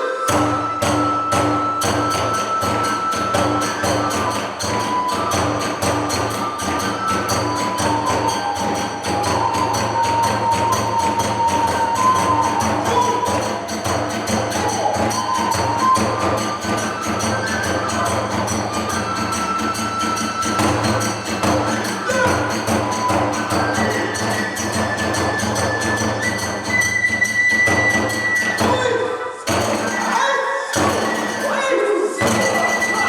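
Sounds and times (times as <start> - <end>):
small hand cymbals: 0.0 - 31.6, 32.2 - 33.0
bamboo flute held notes: 0.0 - 33.0.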